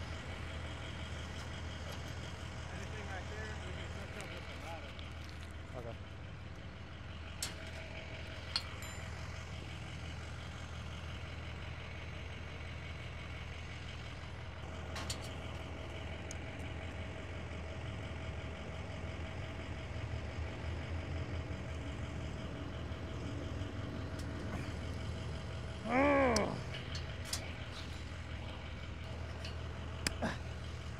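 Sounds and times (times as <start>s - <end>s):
truck engine idling: 0.0s - 30.9s.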